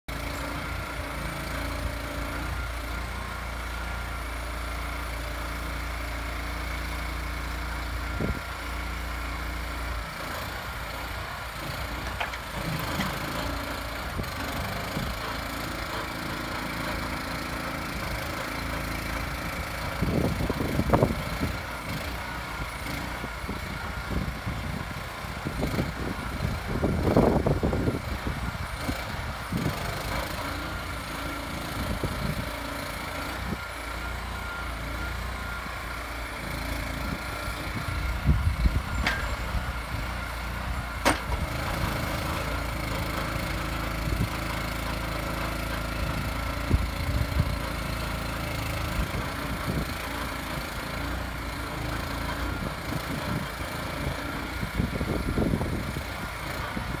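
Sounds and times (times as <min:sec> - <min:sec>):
engine running steadily: 0:00.1 - 0:57.0
hydraulics humming: 0:00.1 - 0:57.0.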